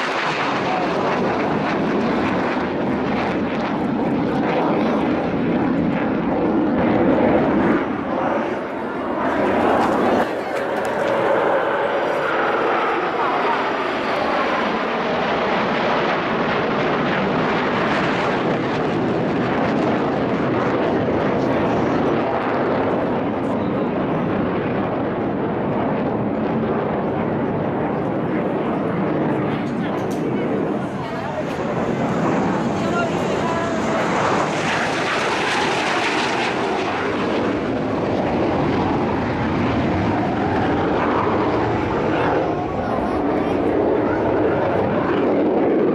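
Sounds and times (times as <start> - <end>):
fighter jets roaring overhead: 0.0 - 45.9.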